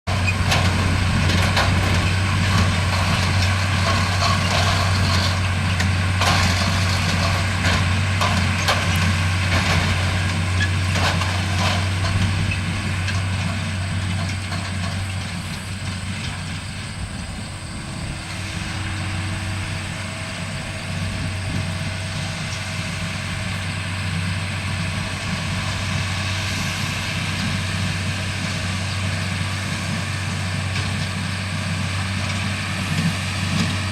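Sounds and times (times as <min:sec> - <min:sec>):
hay baler knocking: 0:00.1 - 0:33.9
tractor engine under load: 0:00.1 - 0:33.9.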